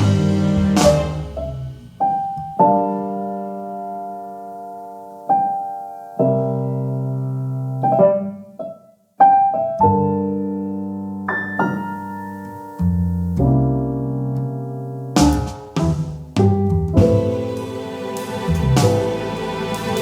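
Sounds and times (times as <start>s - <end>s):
soft piano chords: 0.0s - 20.0s.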